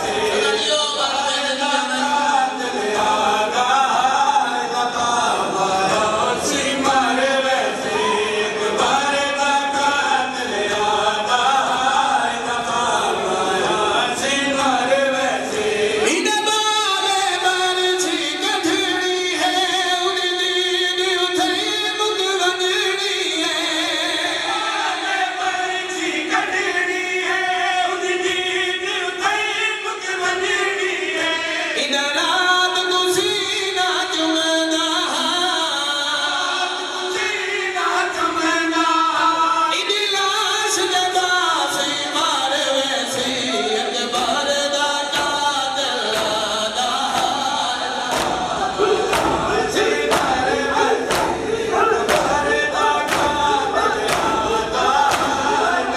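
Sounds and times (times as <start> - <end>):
group of men chanting: 0.0 - 19.8, 22.8 - 32.2, 35.0 - 55.9
man singing a lament into microphone: 0.0 - 55.9.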